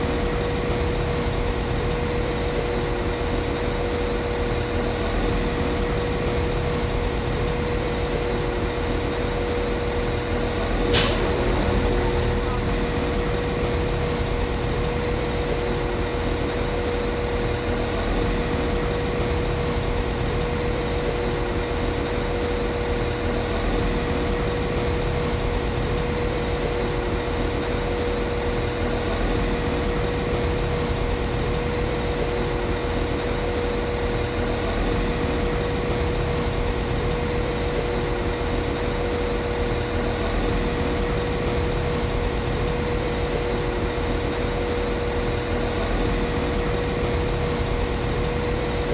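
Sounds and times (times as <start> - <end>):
constant high hum: 0.0 - 48.9.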